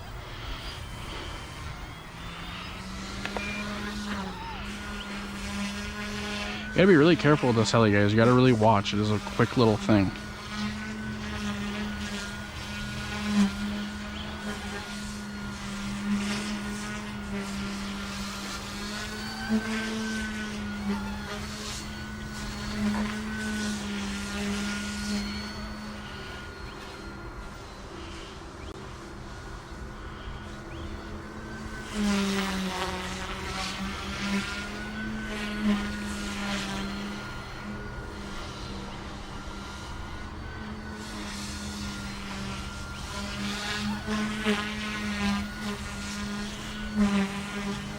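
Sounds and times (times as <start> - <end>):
rc helicopter whirring: 0.0 - 47.9.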